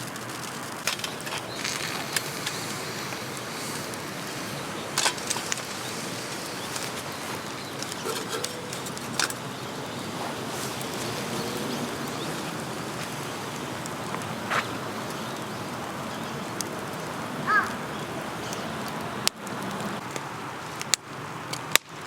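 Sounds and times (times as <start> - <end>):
rain hissing: 0.0 - 21.8.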